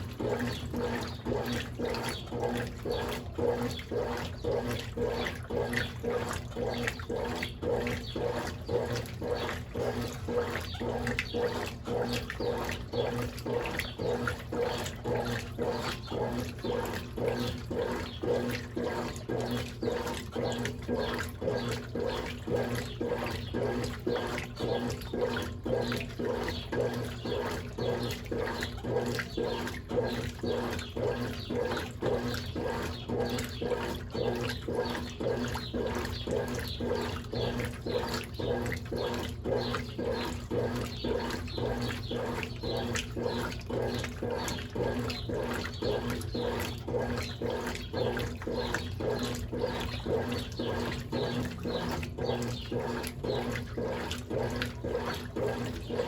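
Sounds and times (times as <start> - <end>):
washing machine motor hum: 0.0 - 56.0
water sloshing in washing machine: 0.0 - 56.0.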